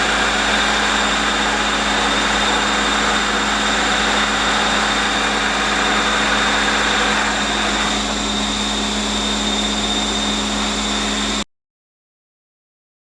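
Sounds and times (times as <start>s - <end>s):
milling machine motor hum and whine: 0.0s - 11.4s.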